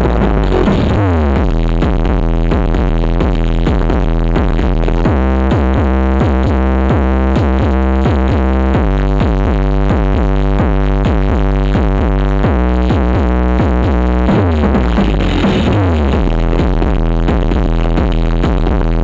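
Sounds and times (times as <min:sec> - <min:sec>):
electronic dance music: 0:00.0 - 0:19.0.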